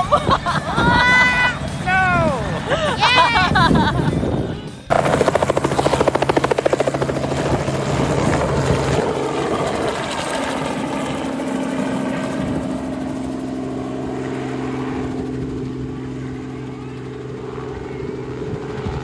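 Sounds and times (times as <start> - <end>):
helicopter engine and rotor hum: 0.0 - 19.0
helicopter rotor chop: 0.0 - 19.0.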